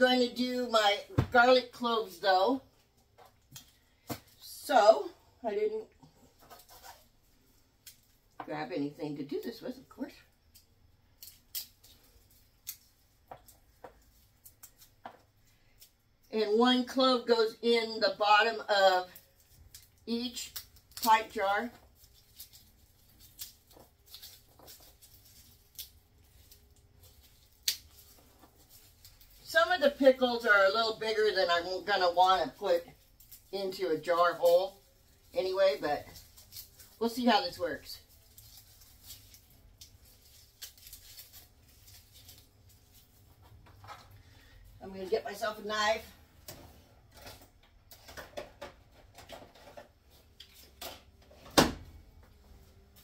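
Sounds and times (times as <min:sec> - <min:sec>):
garlic skins crackling and rustling: 0:00.0 - 0:51.4.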